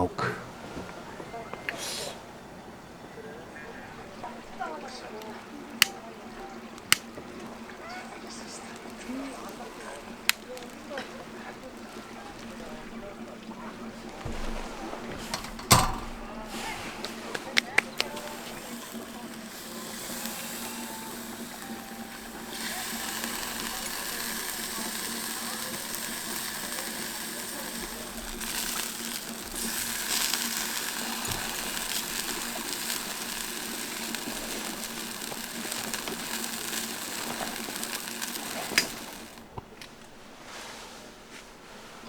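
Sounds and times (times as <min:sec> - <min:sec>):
meat sizzling: 0:04.2 - 0:39.6.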